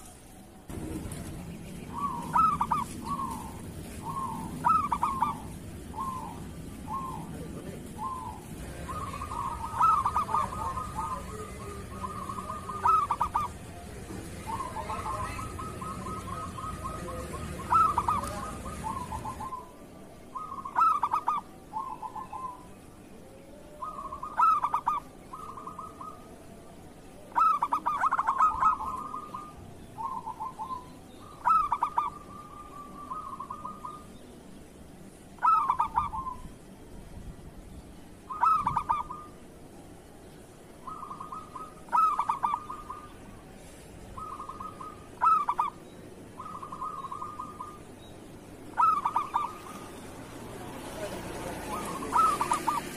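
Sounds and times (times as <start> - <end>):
dove cooing: 0.7 - 34.2, 35.4 - 36.6, 38.3 - 39.5, 40.8 - 52.9.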